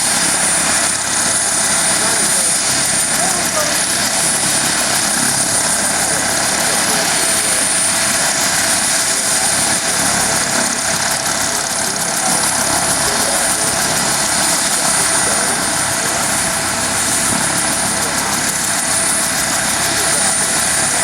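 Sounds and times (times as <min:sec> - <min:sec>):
helicopter engine and rotor running: 0:00.0 - 0:21.0.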